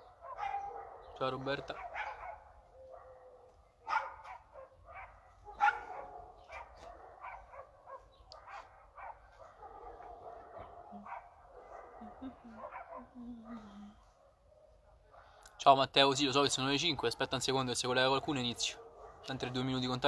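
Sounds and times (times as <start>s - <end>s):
dogs barking and yipping: 0.0s - 15.4s, 18.6s - 19.7s.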